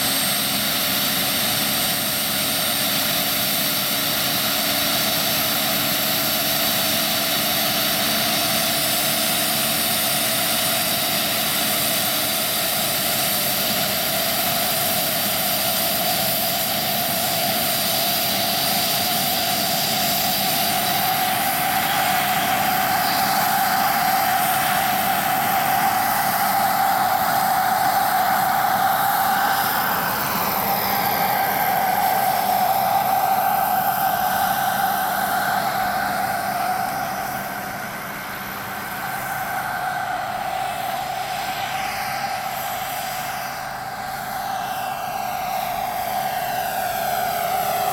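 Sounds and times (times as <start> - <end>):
turbine high whine: 0.0 - 47.9.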